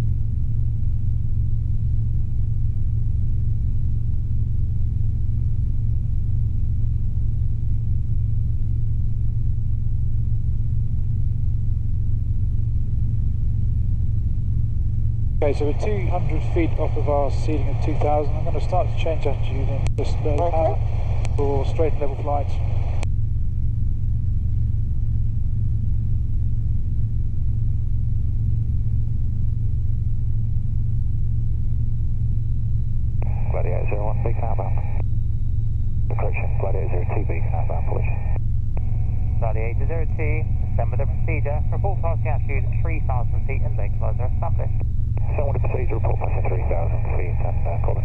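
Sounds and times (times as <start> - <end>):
helicopter engine and rotors droning: 0.0 - 48.0.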